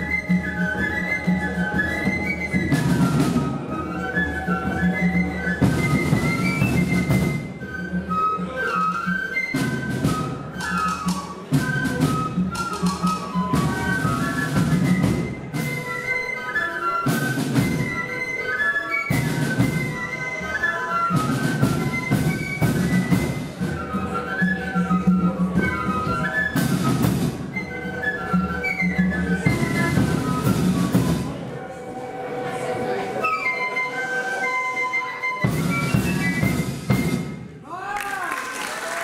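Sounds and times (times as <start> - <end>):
flute band melody: 0.0 - 38.4.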